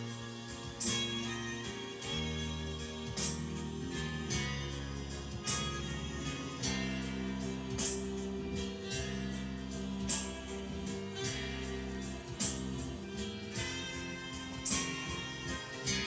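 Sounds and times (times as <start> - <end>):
held chords music: 0.0 - 16.0.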